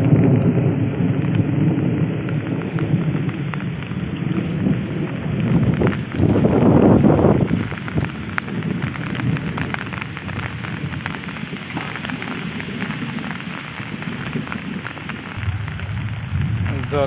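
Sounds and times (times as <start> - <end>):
raindrop ticks: 0.0 - 17.0
steady rain falling: 0.0 - 17.0.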